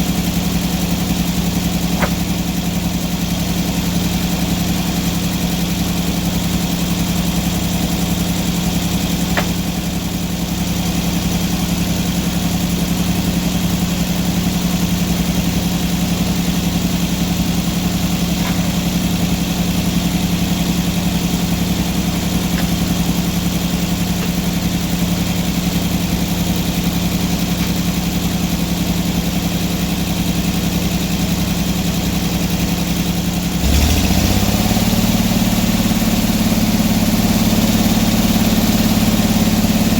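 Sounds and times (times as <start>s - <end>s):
sawmill engine idling and revving: 0.0s - 39.9s.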